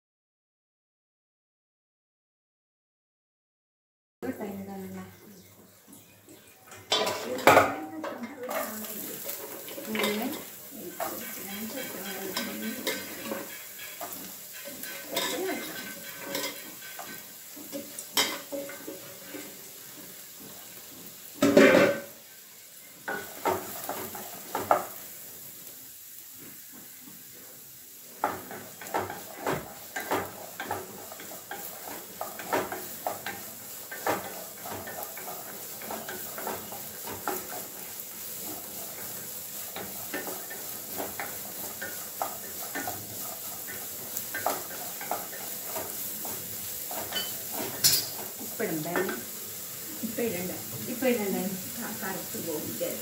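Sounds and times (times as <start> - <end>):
vegetables sizzling in a wok: 4.2 - 53.0
wooden spatula scraping a pan: 6.7 - 25.6, 26.4 - 53.0.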